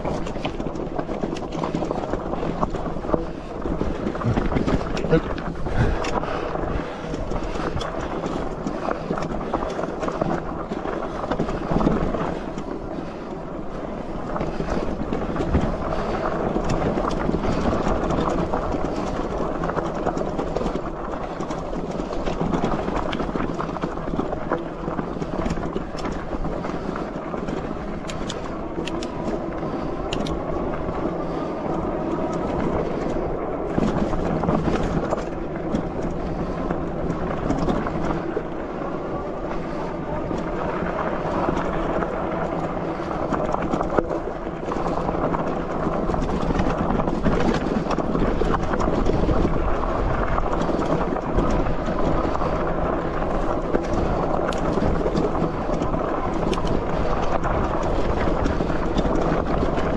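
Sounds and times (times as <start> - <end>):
bike clicks and rattles: 0.0 - 59.9
tyres on loose stones: 0.0 - 59.9
wind buffeting microphone: 0.0 - 59.9.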